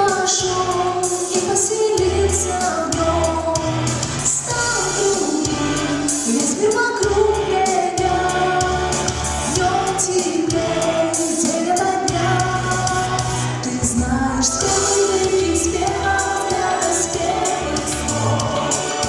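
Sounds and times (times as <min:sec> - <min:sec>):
backing track with bass and drums: 0:00.0 - 0:19.0
girl singing a pop song: 0:00.0 - 0:19.0.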